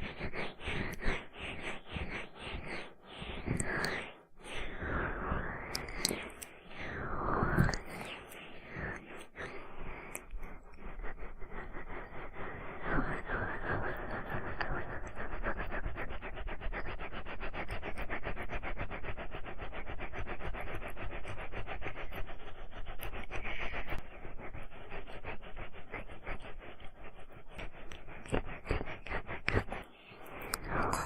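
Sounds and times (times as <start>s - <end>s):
scratching and rubbing near microphone: 0.0s - 4.1s, 4.8s - 18.0s, 20.4s - 31.0s.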